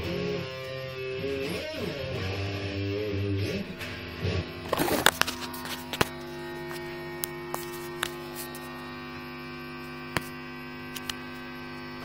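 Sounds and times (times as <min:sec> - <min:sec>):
guitar amplifier hum: 0:00.0 - 0:12.0.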